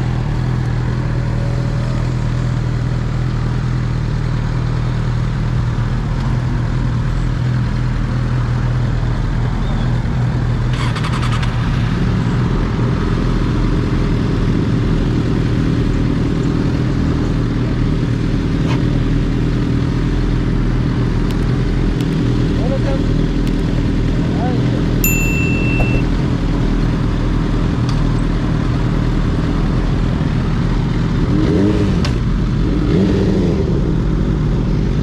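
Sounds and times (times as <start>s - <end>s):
motorcycle engine running hard: 0.0s - 35.0s.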